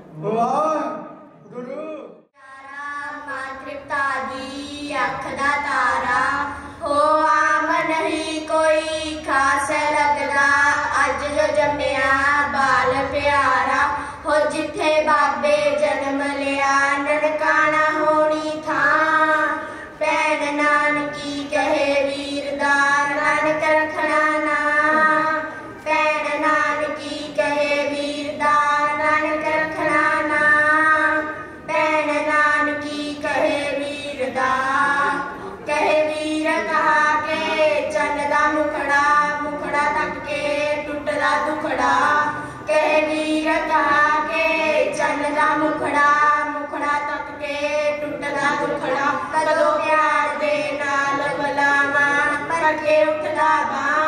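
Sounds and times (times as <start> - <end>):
boy singing into a microphone: 2.4 - 54.0.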